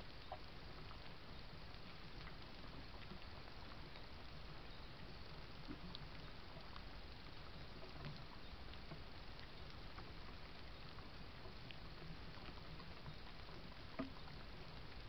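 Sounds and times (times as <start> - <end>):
faint ticks: 0.0 - 15.0
steady low hiss: 0.0 - 15.0.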